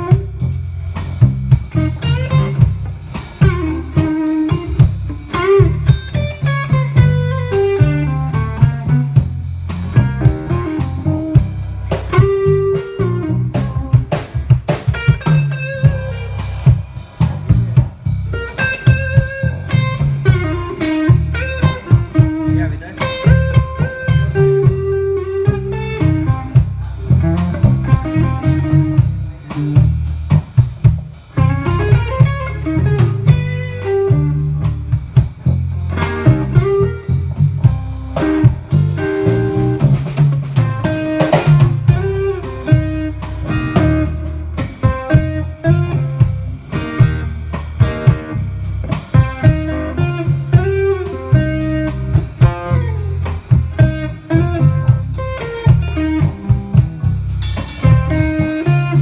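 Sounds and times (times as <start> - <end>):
lead guitar melody: 0.0 - 30.4, 31.1 - 59.0
live rock band playing: 0.0 - 59.0.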